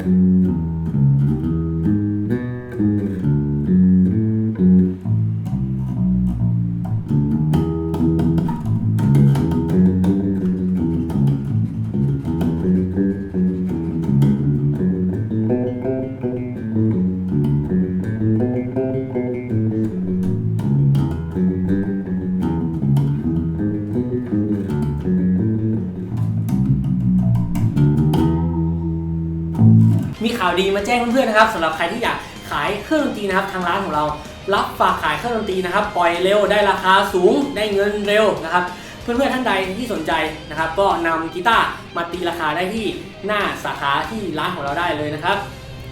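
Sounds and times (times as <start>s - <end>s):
electric bass guitar plucked notes: 0.0s - 45.9s.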